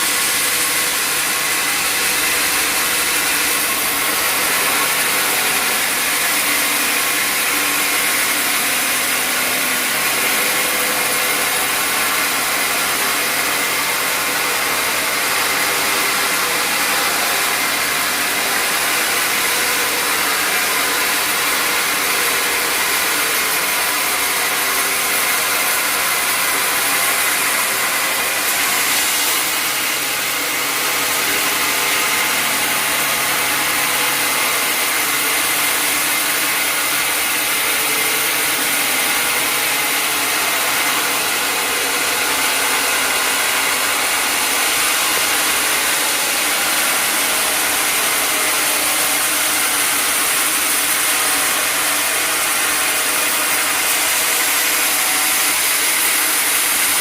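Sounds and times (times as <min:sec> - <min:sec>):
sawmill saw and motor running: 0:00.0 - 0:57.0.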